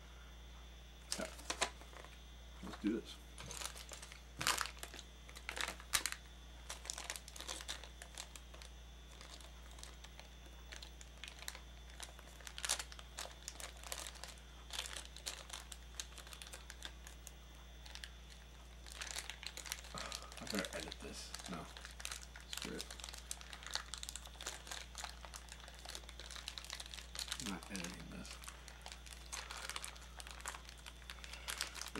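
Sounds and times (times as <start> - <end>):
plastic pack crinkling: 1.1 - 31.9.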